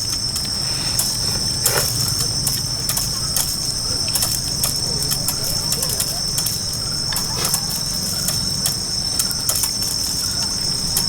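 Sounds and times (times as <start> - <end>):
crickets trilling: 0.0 - 11.0
faint clicks: 0.0 - 11.0.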